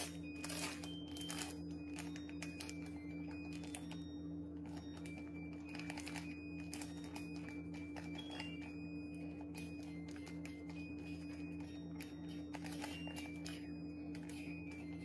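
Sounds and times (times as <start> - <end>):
plastic bag crinkling: 0.0 - 3.9, 4.6 - 15.0.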